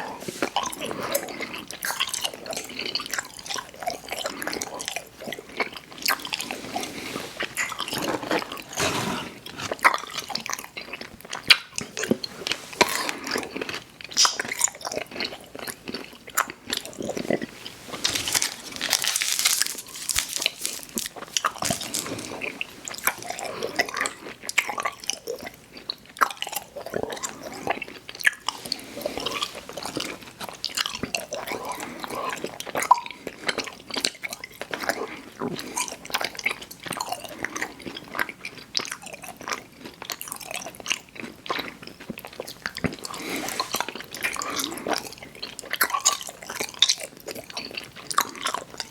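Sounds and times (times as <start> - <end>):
crunchy chewing: 0.0 - 48.9.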